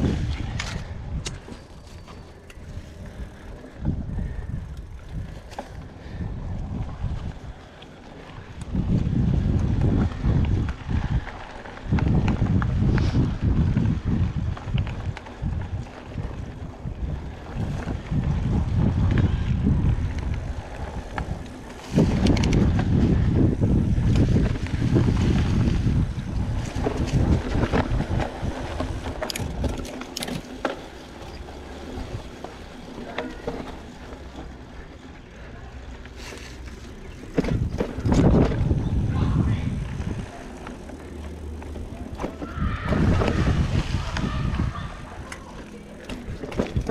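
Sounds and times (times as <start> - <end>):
bike rattles and clicks: 0.0 - 46.9
tyres rumbling on dirt trail: 0.0 - 46.9
wind buffeting the microphone: 0.0 - 46.9.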